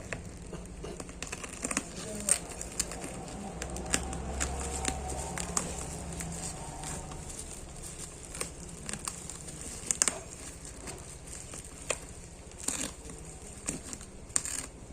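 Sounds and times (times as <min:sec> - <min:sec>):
packaging clicks and rustles: 0:00.0 - 0:14.9.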